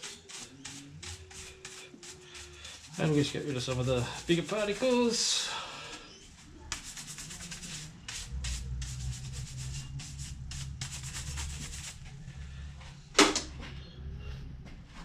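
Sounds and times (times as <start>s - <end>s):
brush scrubbing: 0.0s - 12.2s.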